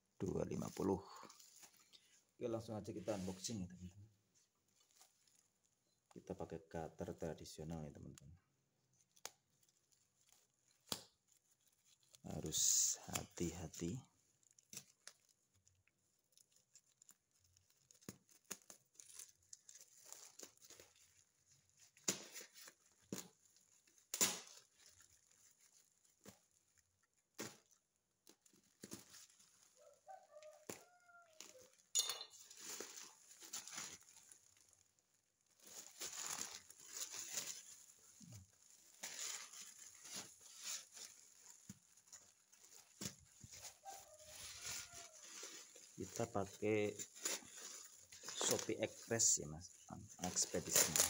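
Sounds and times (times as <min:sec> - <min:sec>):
plastic wrapping tearing: 0:07.9 - 0:49.4, 0:50.0 - 0:51.0.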